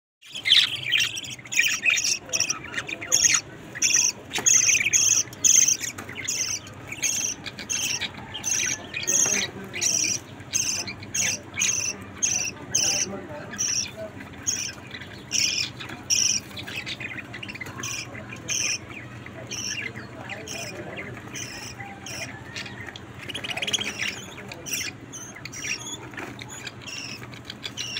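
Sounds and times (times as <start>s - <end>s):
budgerigars chirping: 0.2s - 27.9s.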